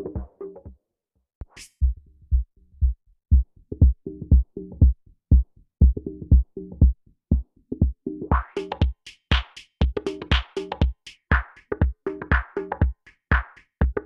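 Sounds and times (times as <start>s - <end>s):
drum machine kick thumps: 1.4s - 14.0s.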